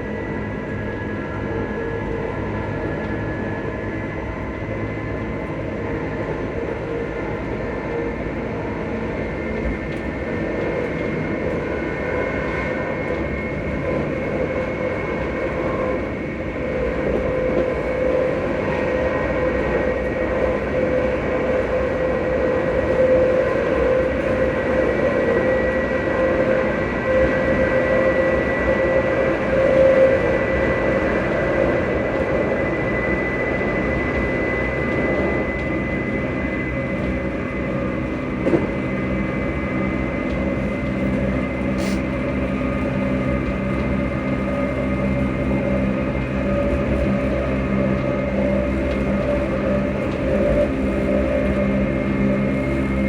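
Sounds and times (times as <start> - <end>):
train rumbling on rails: 0.0 - 53.0.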